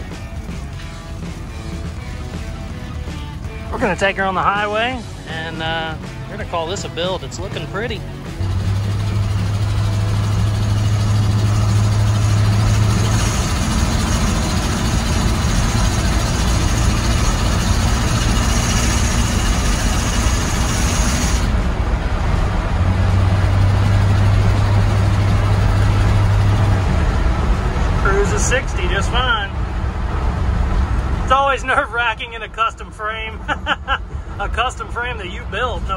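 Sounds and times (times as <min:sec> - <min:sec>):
car engine drone: 0:00.0 - 0:35.9
road and wind noise: 0:00.0 - 0:35.9.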